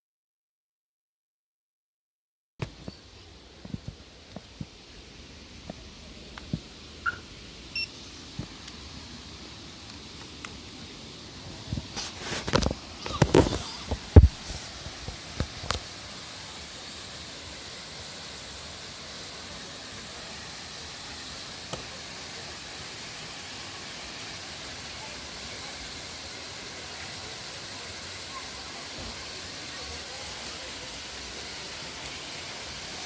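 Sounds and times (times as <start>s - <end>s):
waterfall rushing: 3.4s - 33.0s.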